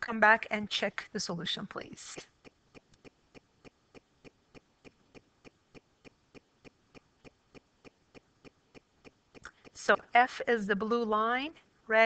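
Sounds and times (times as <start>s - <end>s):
faint regular ticking: 2.1s - 11.8s.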